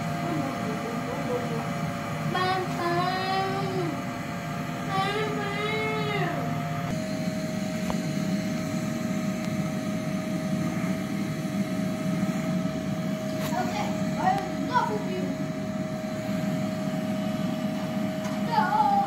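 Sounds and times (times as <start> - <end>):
vacuum cleaner whine: 0.0 - 19.0.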